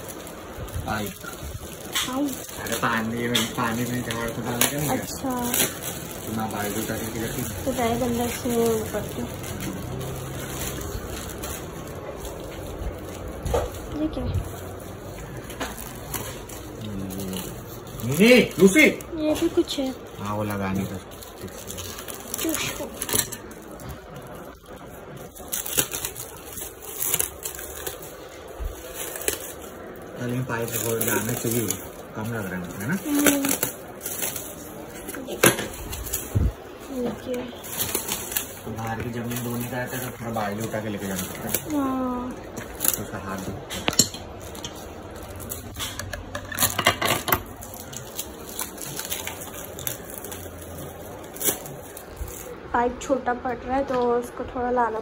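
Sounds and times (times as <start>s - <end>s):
plastic packaging crinkling: 0.0s - 52.7s.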